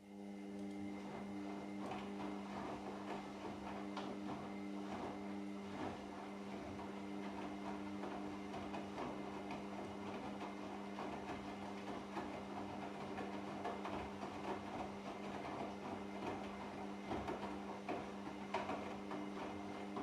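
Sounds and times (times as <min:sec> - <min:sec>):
washing machine motor hum: 0:00.1 - 0:20.0
laundry churning and crackling: 0:00.9 - 0:20.0.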